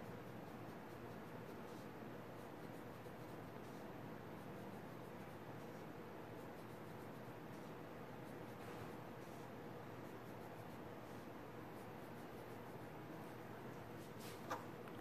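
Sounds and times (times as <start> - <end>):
pencil scratching on paper: 0.0 - 14.6
room hiss: 0.0 - 15.0.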